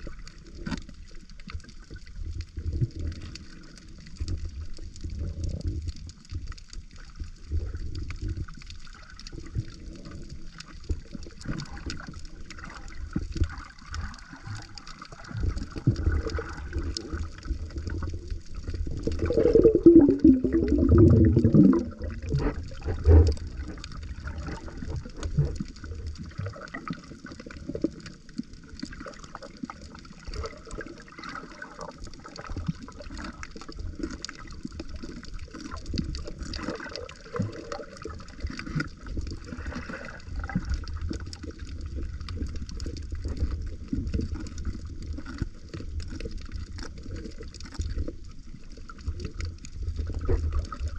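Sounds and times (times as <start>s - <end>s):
water sloshing and gurgling: 0.0s - 50.9s.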